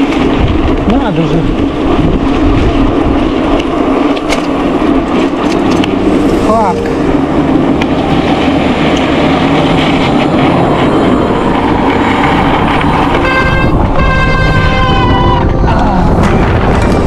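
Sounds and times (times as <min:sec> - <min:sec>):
rough rumbling: 0:00.0 - 0:17.0
wind buffeting microphone: 0:00.0 - 0:17.0.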